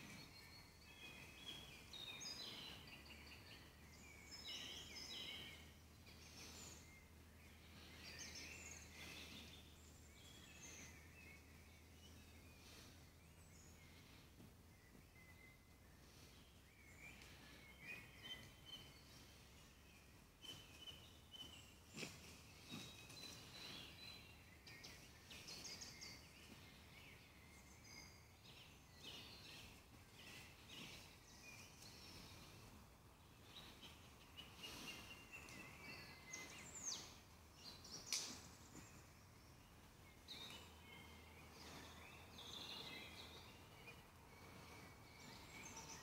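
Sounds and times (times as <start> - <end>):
birds chirping and trilling: 0.0 - 46.0.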